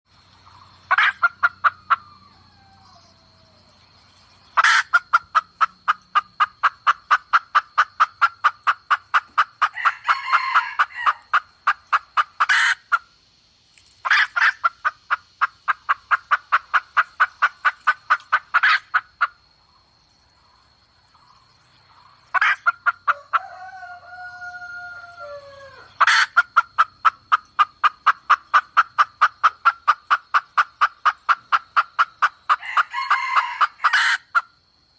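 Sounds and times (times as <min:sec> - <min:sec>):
hen clucking rapidly: 0:00.4 - 0:02.8, 0:04.5 - 0:13.2, 0:14.0 - 0:19.4, 0:21.1 - 0:23.8, 0:25.3 - 0:34.6.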